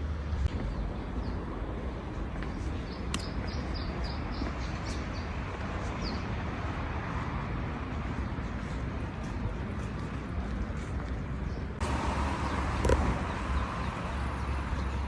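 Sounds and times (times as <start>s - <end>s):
outdoor low rumble: 0.0s - 15.0s.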